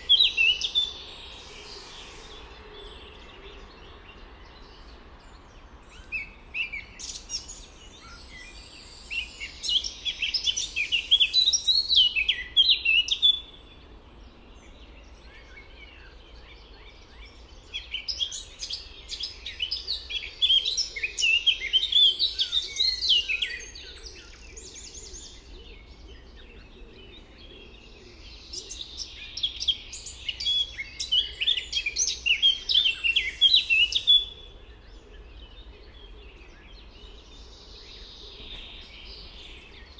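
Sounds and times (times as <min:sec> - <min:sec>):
songbird twittering: 0:00.0 - 0:13.8, 0:14.7 - 0:39.9
faint outdoor background: 0:00.0 - 0:39.9.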